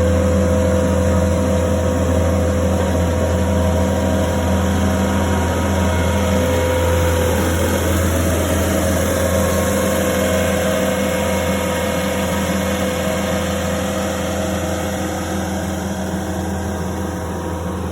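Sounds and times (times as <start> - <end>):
diesel engine droning: 0.0 - 17.9.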